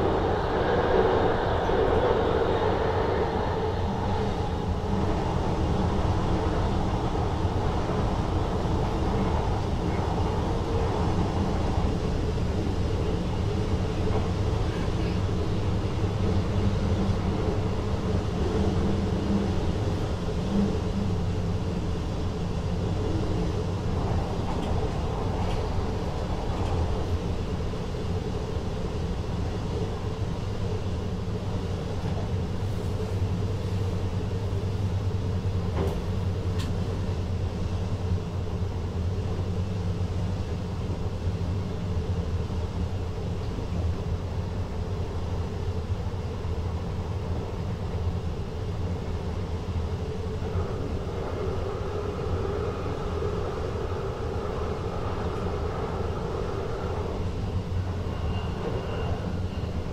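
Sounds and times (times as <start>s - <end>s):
rumble of wheels on rails: 0.0s - 59.9s.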